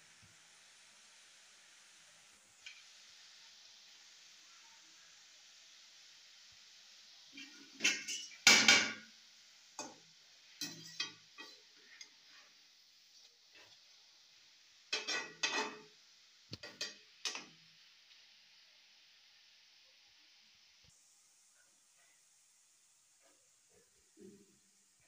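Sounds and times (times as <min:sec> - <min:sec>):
oil sizzling: 0:00.0 - 0:25.0.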